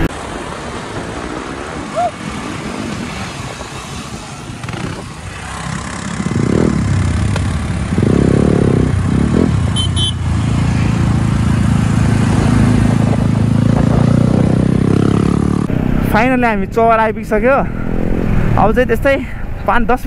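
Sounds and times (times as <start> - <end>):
wind and road noise: 0.0 - 20.0
motorcycle engine revving: 1.6 - 18.6.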